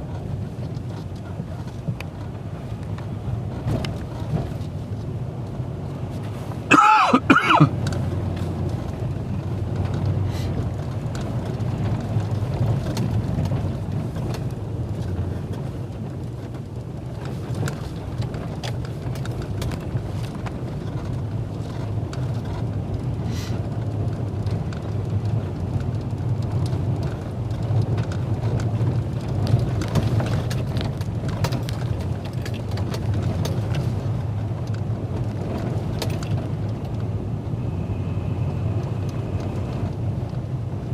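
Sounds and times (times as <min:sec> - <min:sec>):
truck knocks and rattles: 0:00.0 - 0:37.5
engine and tyre rumble: 0:00.0 - 0:40.9.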